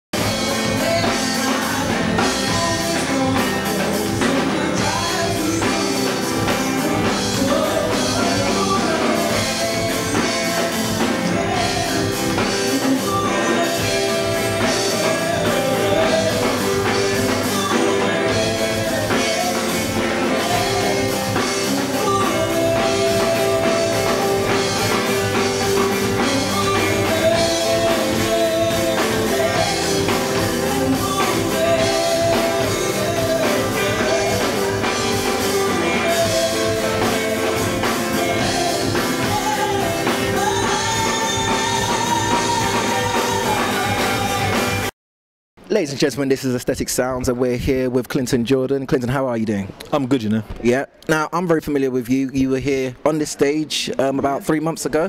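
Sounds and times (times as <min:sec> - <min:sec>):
drum kit: 0:00.1 - 0:44.9
guitar: 0:00.1 - 0:44.9
person singing: 0:00.2 - 0:44.9.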